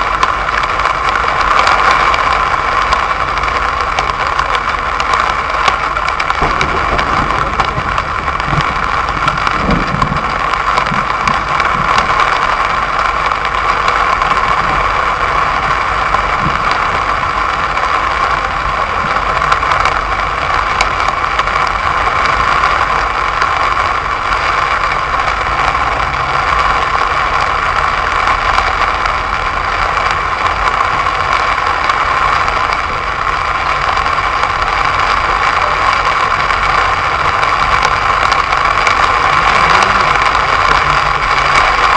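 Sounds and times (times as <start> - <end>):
car engine running: 0.0 - 41.9
rain hissing on car: 0.0 - 41.9.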